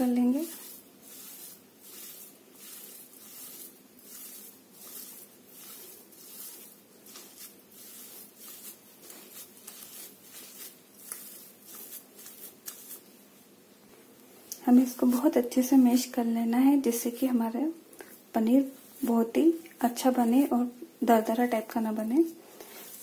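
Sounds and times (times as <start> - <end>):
cloth and curd squishing: 0.0 - 13.5, 18.0 - 23.0.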